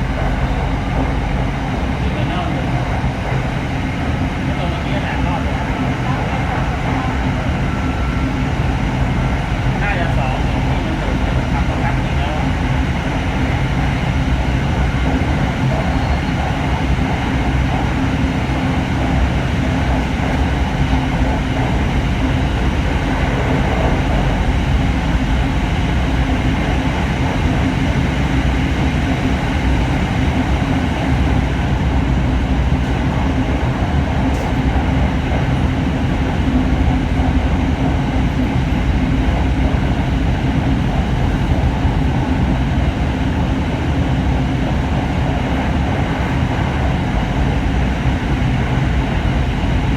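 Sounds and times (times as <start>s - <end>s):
steady low hum: 0.0s - 49.9s
train rumble inside carriage: 0.0s - 49.9s.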